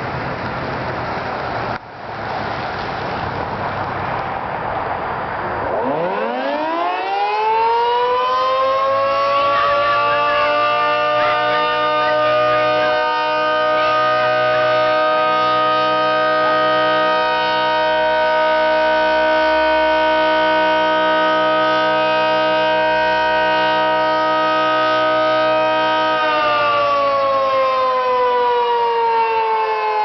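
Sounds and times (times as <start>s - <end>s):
three-tone warning siren: 5.6s - 30.0s.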